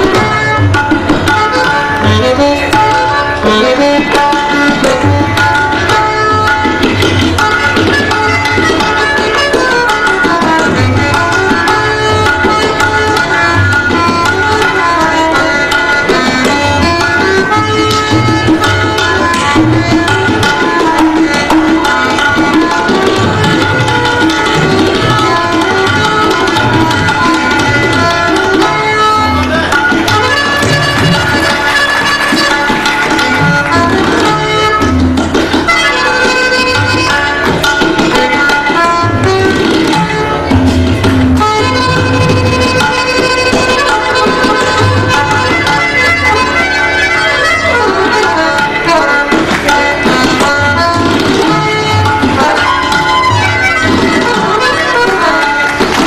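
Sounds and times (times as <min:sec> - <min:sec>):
harmonium melody: 0:00.0 - 0:56.0
tabla drum strokes: 0:00.0 - 0:56.0.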